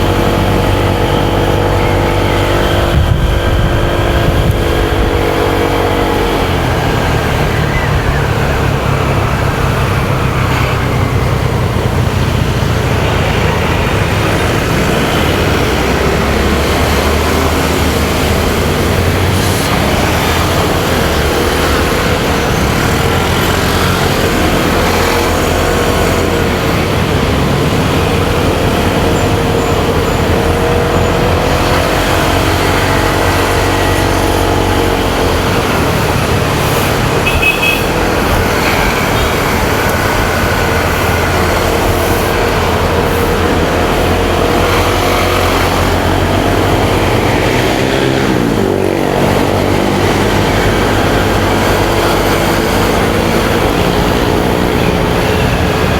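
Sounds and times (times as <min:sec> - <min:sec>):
motorcycle engine running: 0:00.0 - 0:55.9
road and wind noise: 0:00.0 - 0:55.9
surrounding traffic: 0:00.0 - 0:55.9
vehicle passing: 0:00.0 - 0:55.9.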